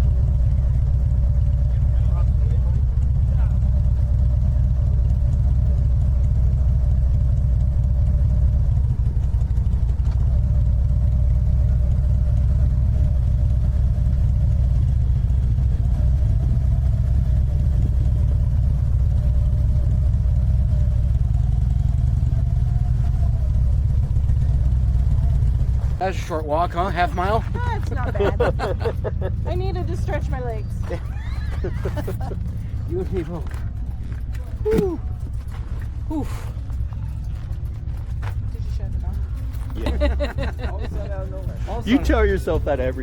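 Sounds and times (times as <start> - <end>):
motorcycle engine rumbling: 0.0 - 43.0.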